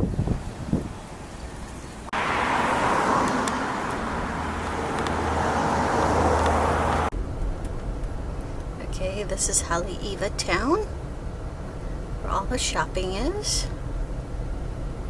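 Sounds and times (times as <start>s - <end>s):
low engine hum: 0.0s - 15.0s
tyre and road noise hiss: 0.0s - 15.0s.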